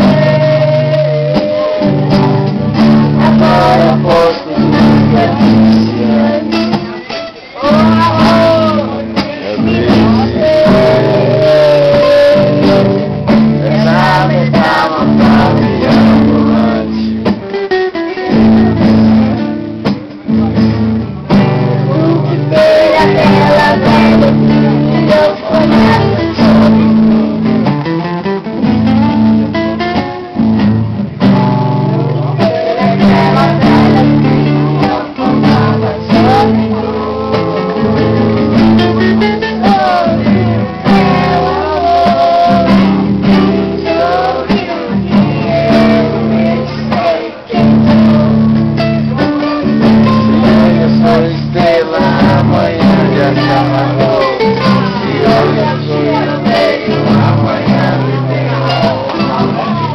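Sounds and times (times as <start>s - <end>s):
man singing: 0.0s - 27.8s, 31.2s - 59.9s
acoustic guitars playing: 0.0s - 59.9s.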